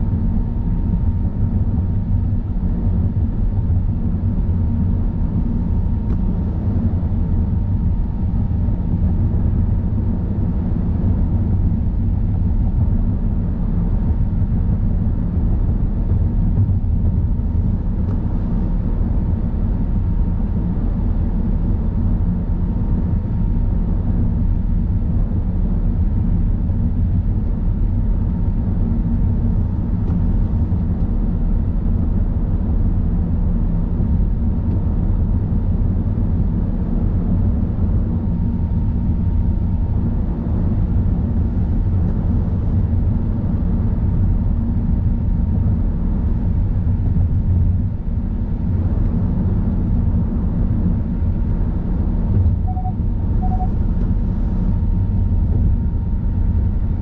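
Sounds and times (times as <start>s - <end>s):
faint steady whine: 0.0s - 57.0s
car tyres and engine rumble: 0.1s - 57.0s.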